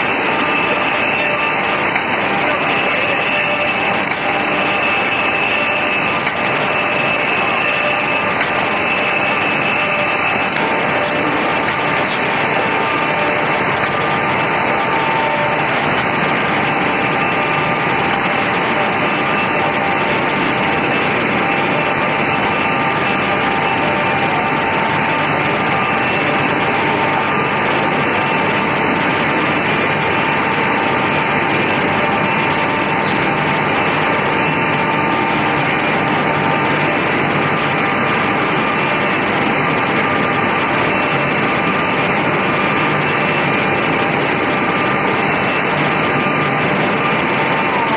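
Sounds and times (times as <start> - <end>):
machine running steadily: 0.0 - 47.9.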